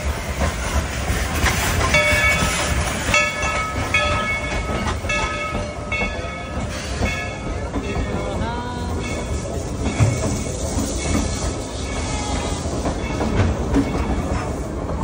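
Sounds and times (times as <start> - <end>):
steam train rumbling: 0.0 - 15.0
train bell ringing: 1.7 - 14.9.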